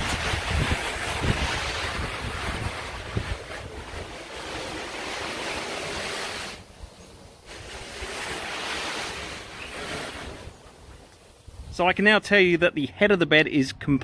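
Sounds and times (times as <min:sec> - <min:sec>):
hose nozzle spraying water: 0:00.0 - 0:11.7.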